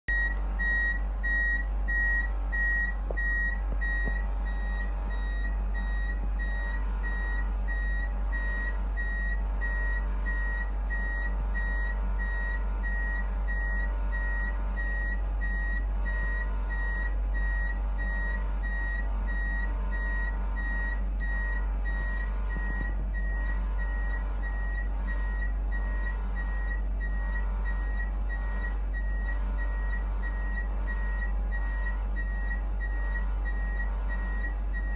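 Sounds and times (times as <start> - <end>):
lorry reversing alarm beeps: 0.1 - 34.9
low hum: 0.1 - 34.9.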